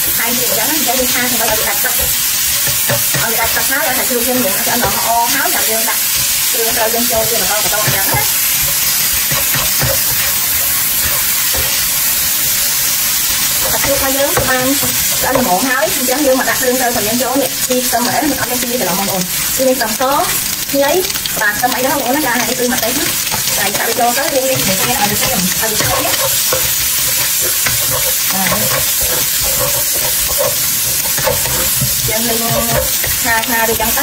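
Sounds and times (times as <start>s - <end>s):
food sizzling in hot oil: 0.0s - 34.0s
spatula stirring in wok: 0.0s - 34.0s.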